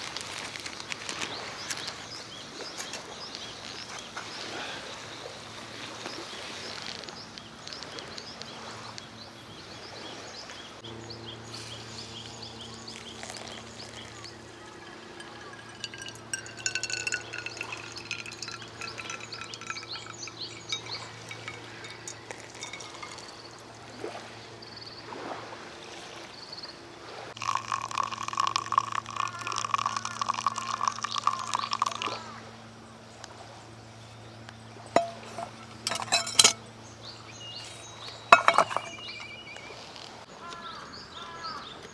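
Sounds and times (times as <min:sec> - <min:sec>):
small birds chirping: 0:00.4 - 0:25.1, 0:27.6 - 0:32.4, 0:33.0 - 0:41.9.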